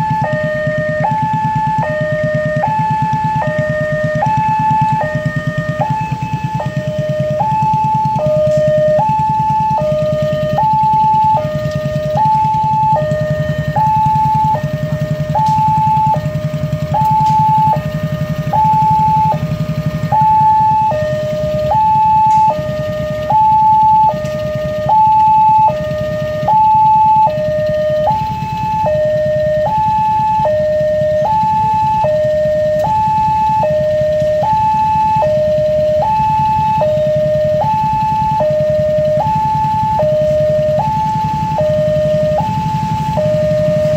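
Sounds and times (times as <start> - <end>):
two-tone crossing alarm chime: 0.0 - 43.9.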